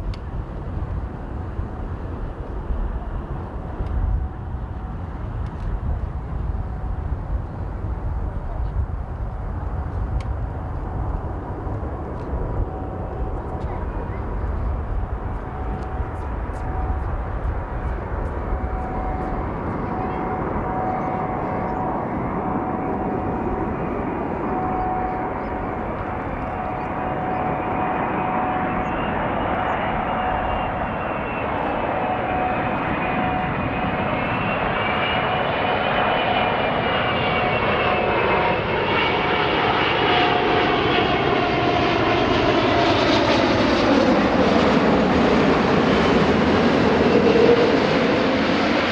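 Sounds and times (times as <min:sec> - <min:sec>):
jet engines roaring and whining: 0:00.0 - 0:48.9.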